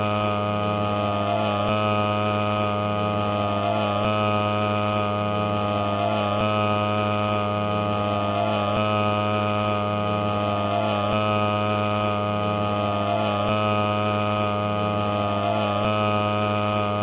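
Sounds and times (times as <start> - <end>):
droning hum of held tones: 0.0 - 17.0.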